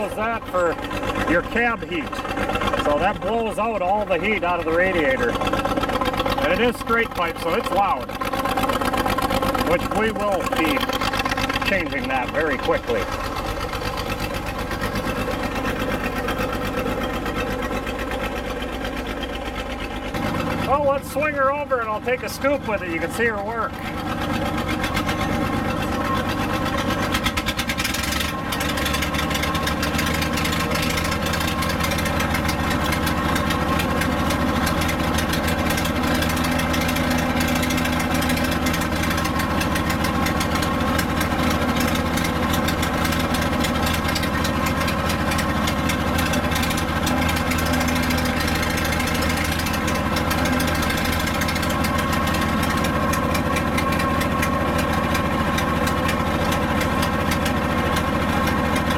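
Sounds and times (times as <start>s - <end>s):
crane engine running loud: 0.0s - 58.9s.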